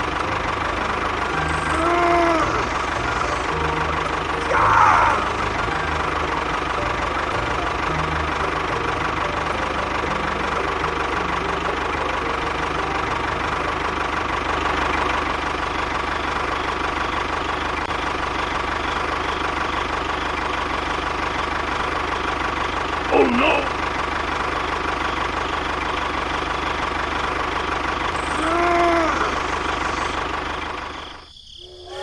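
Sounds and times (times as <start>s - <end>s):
small engine running steadily: 0.0s - 31.6s.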